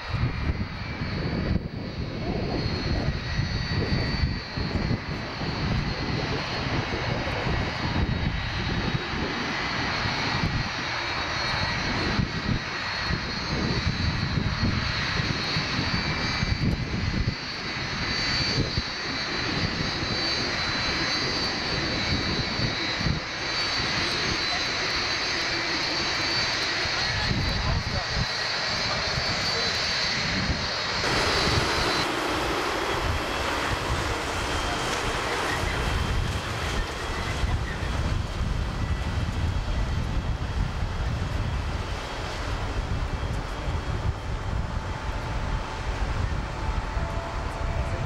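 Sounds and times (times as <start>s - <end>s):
thin high engine whine: 0.0s - 40.5s, 41.1s - 48.0s
jet engines rumbling: 0.0s - 48.0s.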